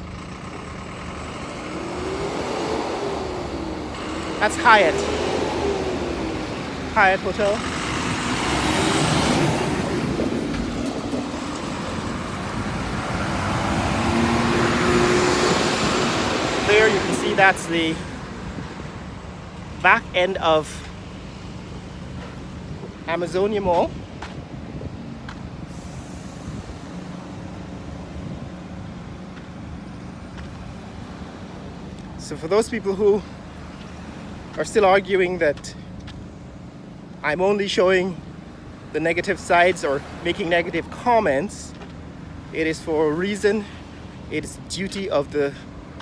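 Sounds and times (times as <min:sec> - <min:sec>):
road traffic noise: 0:00.0 - 0:46.0
vehicle engine hum: 0:00.0 - 0:46.0.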